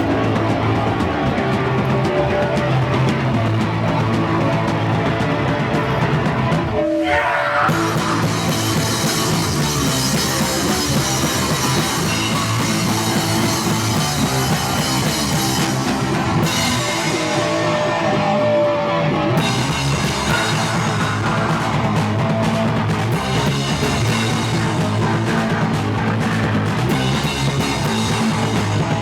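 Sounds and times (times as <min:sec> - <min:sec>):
punk band playing live: 0:00.0 - 0:29.0.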